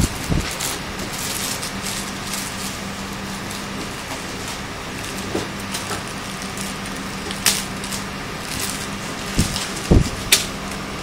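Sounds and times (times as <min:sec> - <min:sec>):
plastic wrapping crinkling: 0:00.0 - 0:11.0
steady low hum: 0:00.0 - 0:11.0.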